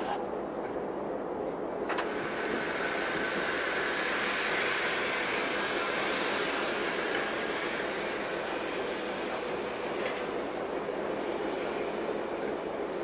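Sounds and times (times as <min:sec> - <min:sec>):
steam locomotive hissing steam: 0:02.0 - 0:13.0.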